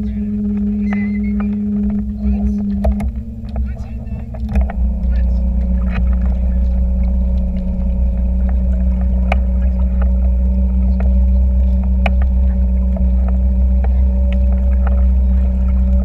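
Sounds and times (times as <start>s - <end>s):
boat motor running: 0.0s - 16.0s
water slapping against paddleboard: 0.0s - 16.0s.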